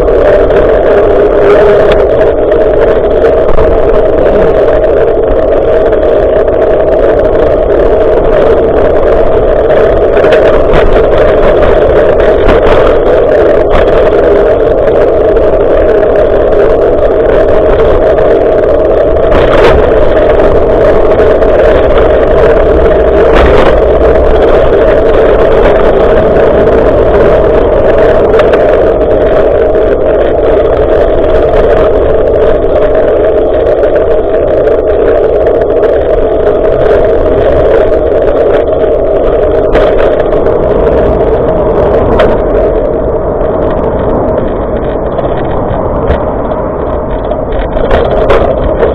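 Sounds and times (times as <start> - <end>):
bicycle road rumble: 0.0 - 48.9
wind rushing: 0.0 - 48.9.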